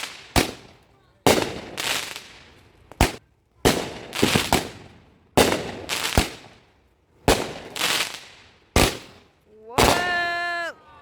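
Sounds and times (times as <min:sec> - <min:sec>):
fireworks bangs with hiss: 0:00.0 - 0:10.5.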